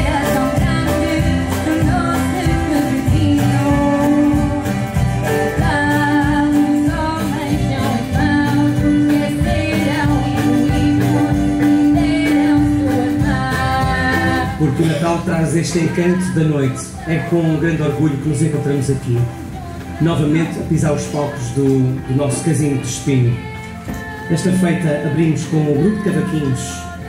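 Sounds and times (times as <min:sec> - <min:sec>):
people singing: 0:00.0 - 0:27.0
small guitars strummed: 0:00.0 - 0:27.0.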